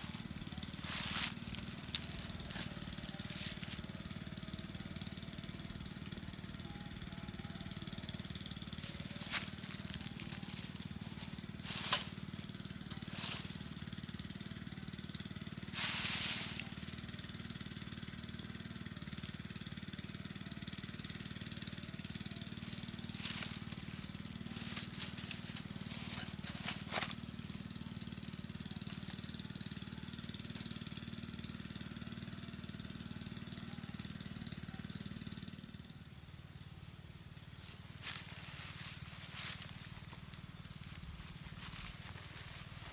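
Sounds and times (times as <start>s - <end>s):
dry leaves crackling and rustling: 0.0s - 35.8s, 37.2s - 42.9s
steady low hum: 0.0s - 42.9s.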